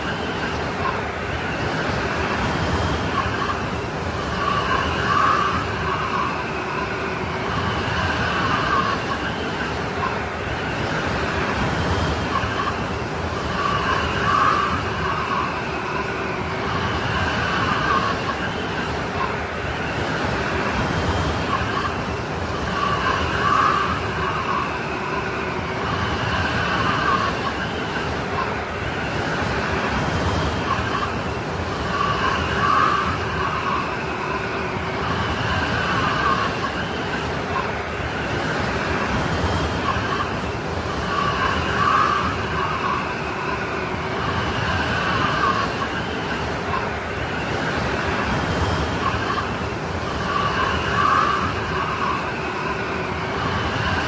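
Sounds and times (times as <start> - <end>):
strong wind howling: 0.0 - 54.0.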